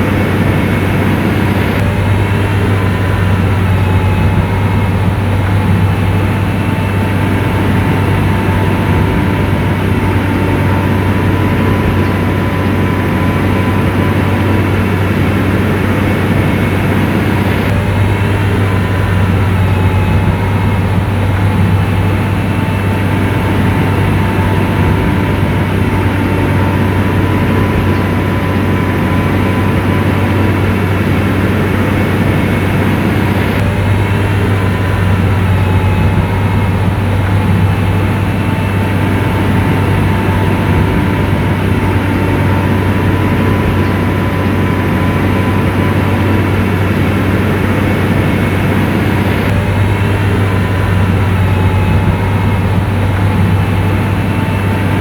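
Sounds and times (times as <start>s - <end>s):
diesel engine drone: 0.0s - 55.0s
faint steady whine: 0.0s - 55.0s.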